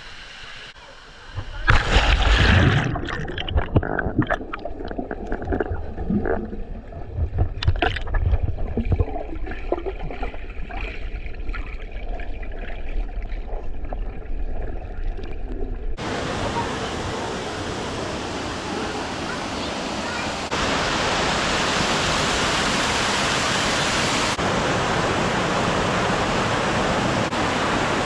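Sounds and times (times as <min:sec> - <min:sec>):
water splashing and gurgling: 0:01.4 - 0:24.4.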